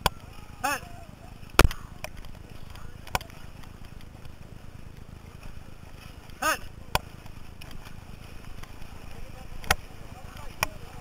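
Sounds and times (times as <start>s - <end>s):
wind and water rushing: 0.0s - 11.0s.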